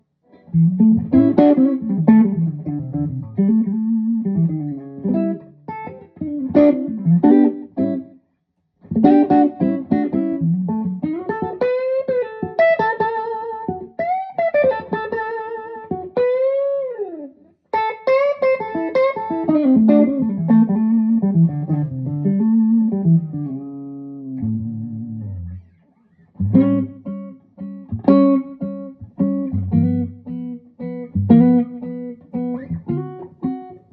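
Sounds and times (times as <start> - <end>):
electric guitar chords: 0.3 - 8.1, 8.9 - 25.7, 26.4 - 33.9
electric guitar lead lines: 0.3 - 8.1, 8.8 - 33.9.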